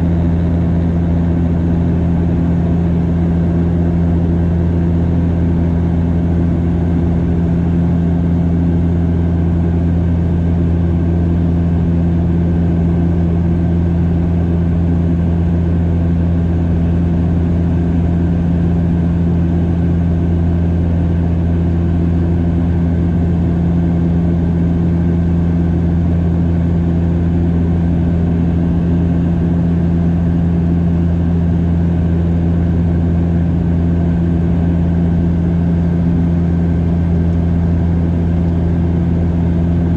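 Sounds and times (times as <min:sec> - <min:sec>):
turboprop cabin drone: 0:00.0 - 0:39.9.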